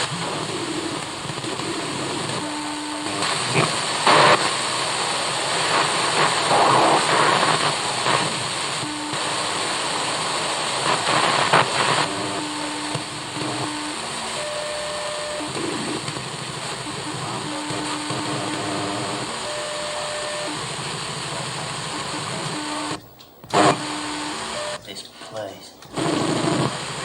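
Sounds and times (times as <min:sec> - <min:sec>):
television static hiss: 0:00.0 - 0:27.0.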